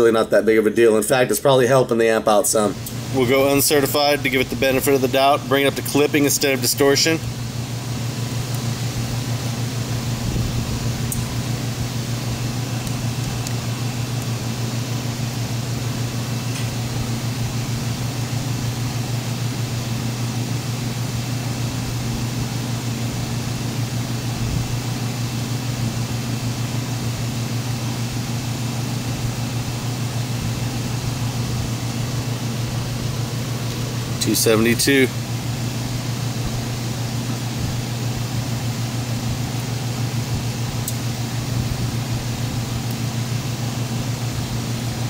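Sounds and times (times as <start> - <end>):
constant low hum: 0.0 - 45.0
cooling fans whirring: 0.0 - 45.0.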